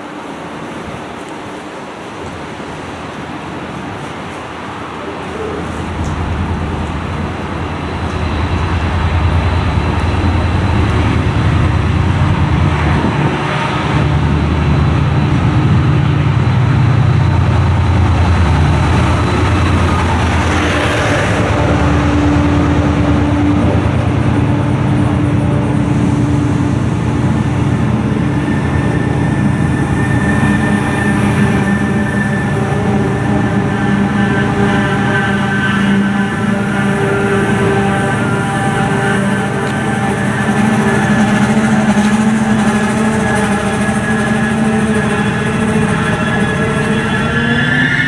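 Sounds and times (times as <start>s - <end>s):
train engine running close by: 0.0s - 48.0s.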